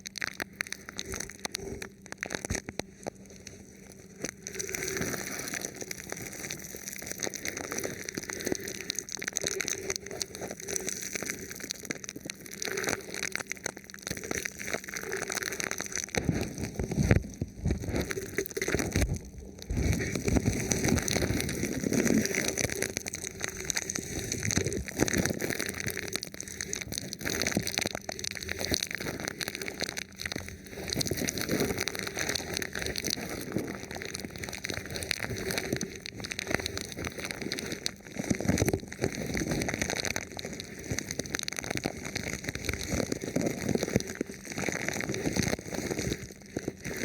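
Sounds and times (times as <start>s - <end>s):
plastic film crinkling on microphone: 0.0s - 47.0s.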